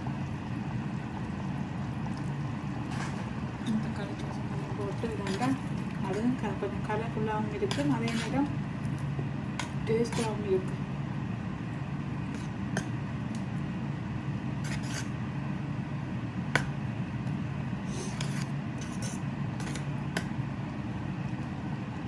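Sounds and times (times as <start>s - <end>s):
pot heating low hum: 0.0s - 22.0s.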